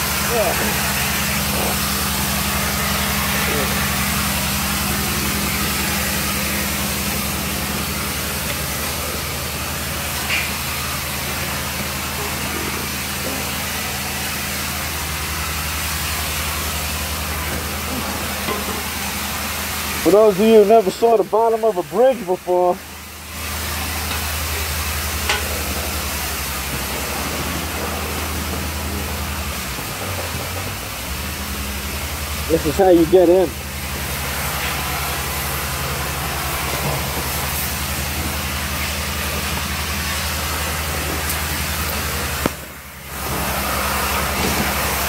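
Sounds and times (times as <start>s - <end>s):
engine-like machine hum: 0.0s - 45.0s
loud hiss: 0.0s - 45.0s.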